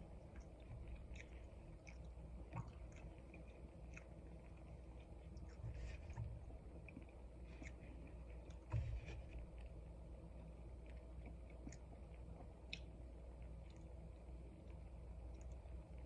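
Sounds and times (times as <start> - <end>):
close-miked chewing: 0.0 - 16.0
low steady hum: 0.0 - 16.0.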